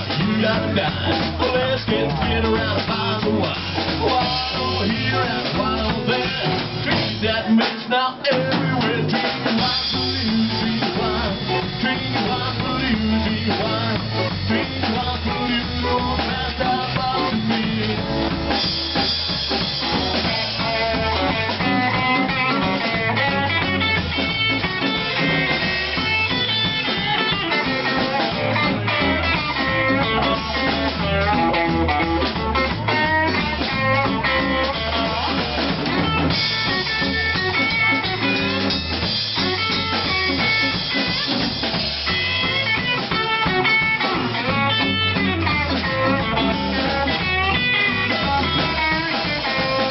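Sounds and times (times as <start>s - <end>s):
drum kit: 0.0s - 49.9s
electric guitar lead lines: 8.5s - 49.9s.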